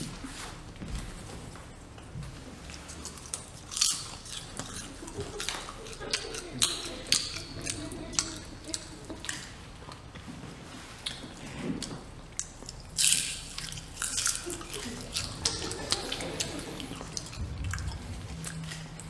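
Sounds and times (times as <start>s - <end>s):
crunching and crackling clicks: 2.7s - 10.3s, 11.0s - 19.0s.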